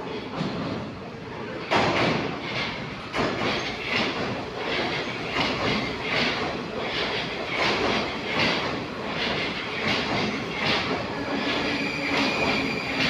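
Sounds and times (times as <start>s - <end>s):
train wheels clattering: 1.6s - 13.0s.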